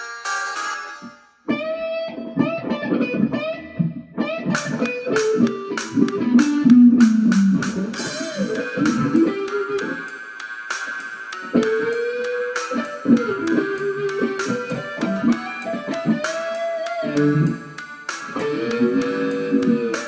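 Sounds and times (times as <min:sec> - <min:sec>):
electric guitar single notes: 0:01.0 - 0:20.0.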